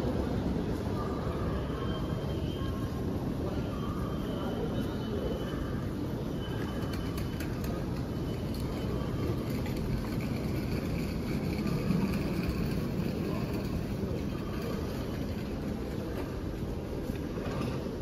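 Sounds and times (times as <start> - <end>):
faint indistinct voices: 0.0 - 18.0.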